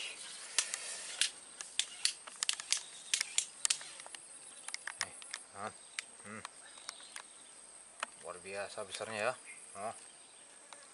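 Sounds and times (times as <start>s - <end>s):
high insect drone: 0.0s - 10.9s.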